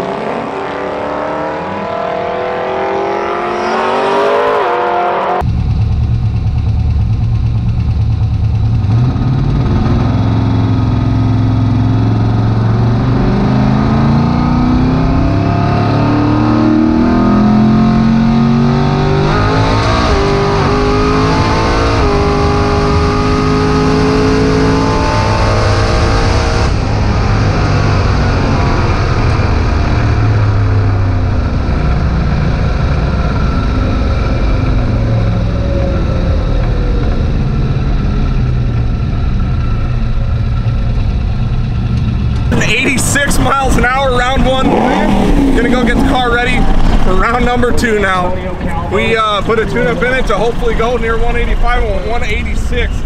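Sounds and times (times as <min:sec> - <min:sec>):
car engine at full throttle: 0:00.0 - 0:53.0.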